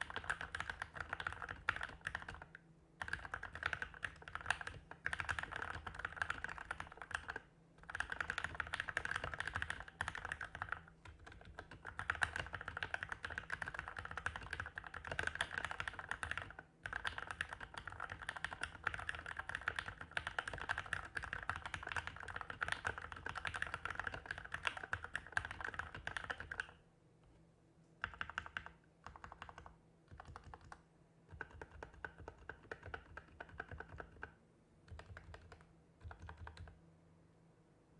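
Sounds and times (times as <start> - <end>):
mechanical keyboard typing: 0.0 - 26.8, 28.0 - 36.8.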